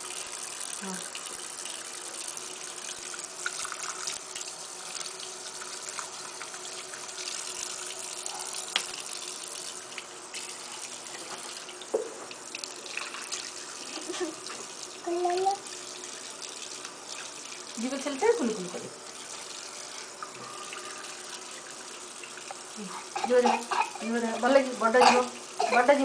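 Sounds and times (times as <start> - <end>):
tap running into washbasin: 0.0 - 26.0.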